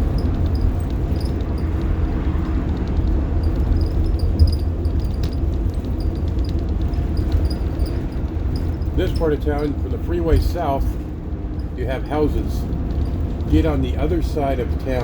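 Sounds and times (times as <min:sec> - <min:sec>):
bus diesel engine rumbling: 0:00.0 - 0:15.0
road noise: 0:00.0 - 0:15.0.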